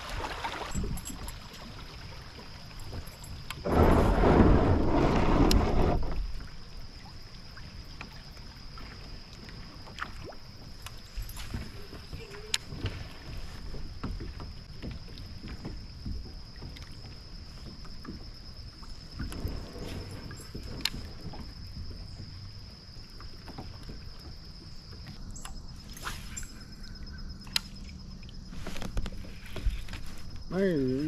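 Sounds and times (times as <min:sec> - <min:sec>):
water swishing: 0:00.0 - 0:30.8.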